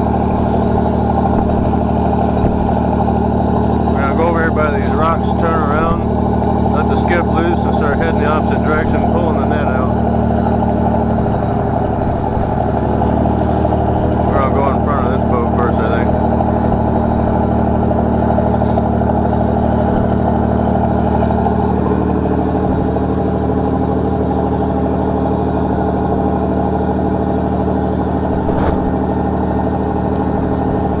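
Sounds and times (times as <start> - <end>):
boat diesel engine running: 0.0 - 31.0
water rushing along hull: 0.0 - 31.0.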